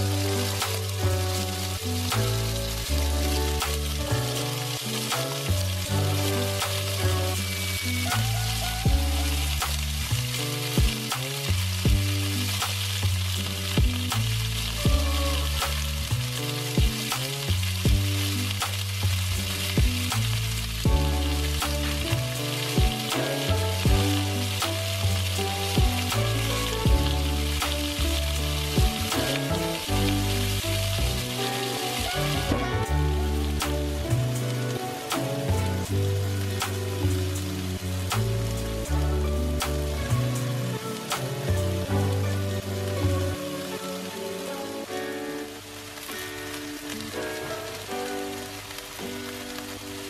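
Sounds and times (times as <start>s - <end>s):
background music with bass: 0.0s - 50.0s
meat sizzling in a wok: 0.0s - 50.0s.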